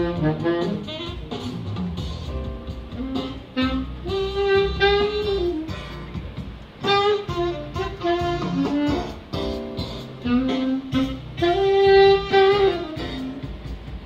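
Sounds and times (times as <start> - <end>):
low band backing: 0.0 - 14.0.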